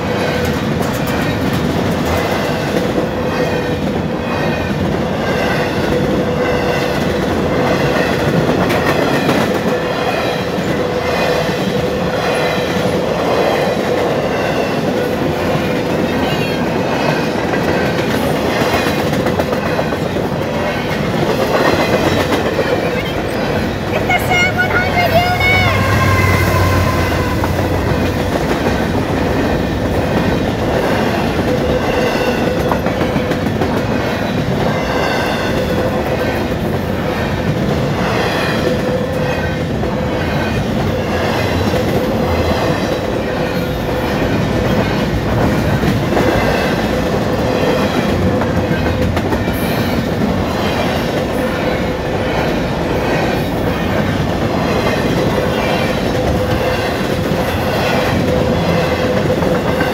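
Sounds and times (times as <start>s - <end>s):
diesel locomotive engine hum: 0.0s - 59.9s
freight train wheels clicking: 0.0s - 59.9s.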